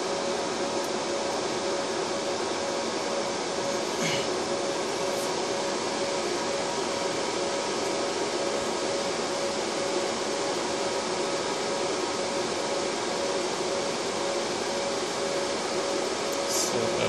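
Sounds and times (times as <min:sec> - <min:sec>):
server cooling fans whirring: 0:00.0 - 0:17.0.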